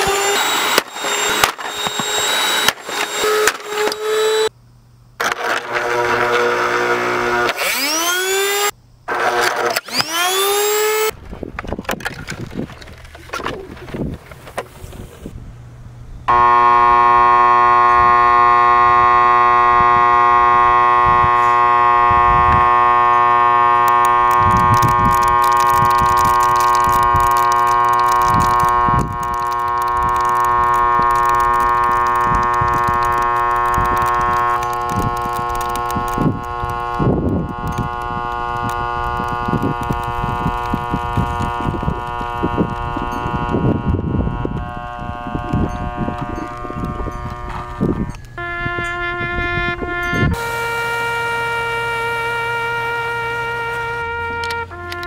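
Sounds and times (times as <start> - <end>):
vacuum cleaner buzzing: 0.0 - 4.5, 5.2 - 11.1, 16.3 - 55.0.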